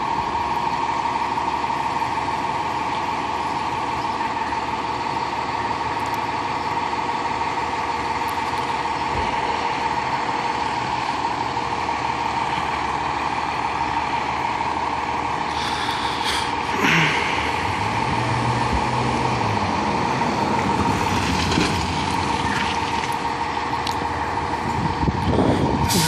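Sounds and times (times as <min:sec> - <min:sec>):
fire engine idling: 0:00.0 - 0:26.0.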